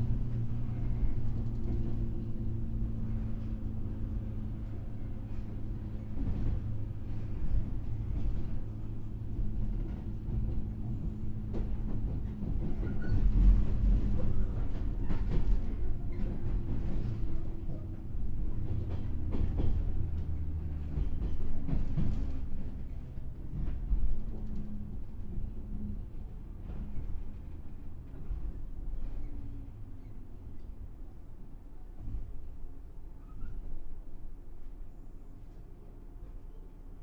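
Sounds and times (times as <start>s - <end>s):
heavy train rumble: 0.0s - 37.0s.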